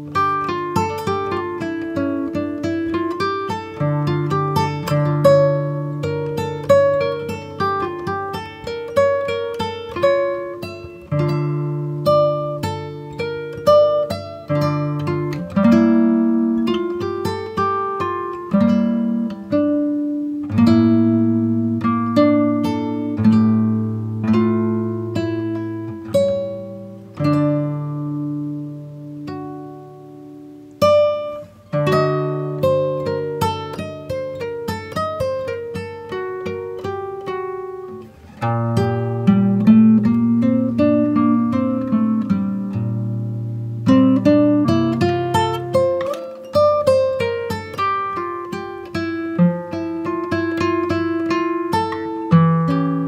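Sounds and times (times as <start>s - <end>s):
acoustic guitar music: 0.0s - 53.0s
plucked string melody: 0.0s - 53.0s.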